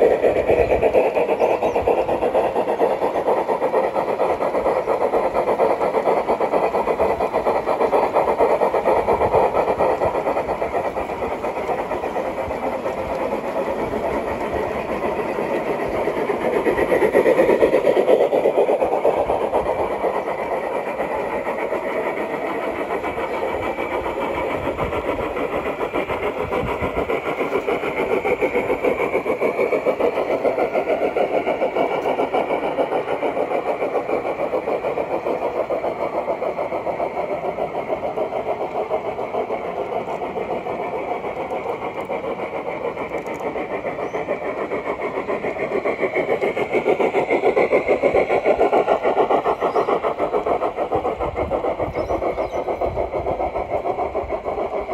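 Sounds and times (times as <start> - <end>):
model train wheels rumbling: 0.0 - 54.9.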